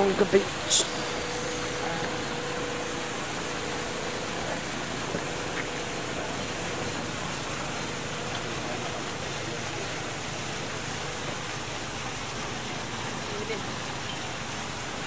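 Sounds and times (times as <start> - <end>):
water jet spraying into pool: 0.0 - 15.0.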